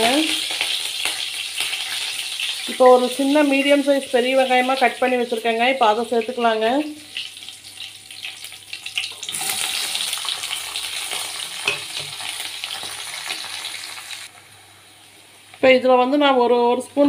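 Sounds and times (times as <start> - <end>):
onions sizzling in oil: 0.0 - 16.4.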